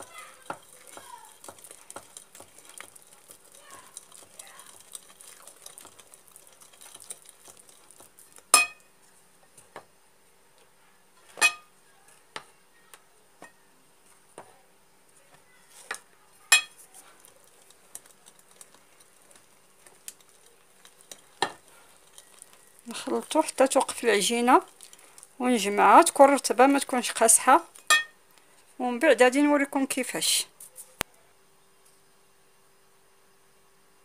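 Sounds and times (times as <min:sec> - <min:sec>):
soft mixing sounds: 0:00.0 - 0:33.6.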